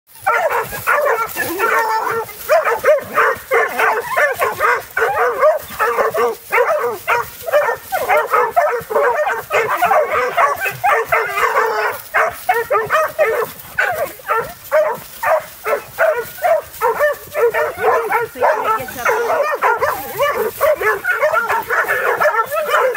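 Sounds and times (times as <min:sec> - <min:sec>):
dogs barking and yipping: 0:00.1 - 0:22.9.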